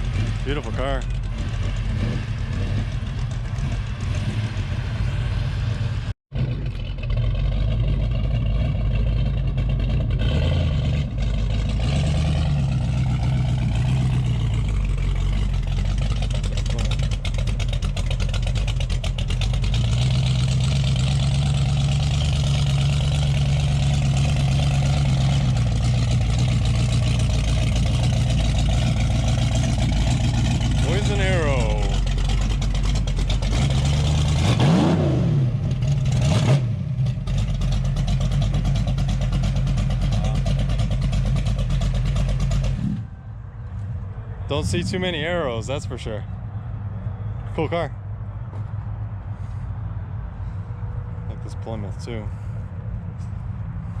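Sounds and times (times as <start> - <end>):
car engine idling: 0.0 - 34.8, 35.5 - 54.0.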